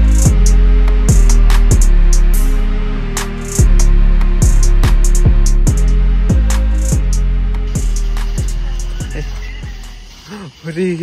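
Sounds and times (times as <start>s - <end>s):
deep bass kicks: 0.0s - 9.2s
sustained bass line: 0.0s - 9.9s.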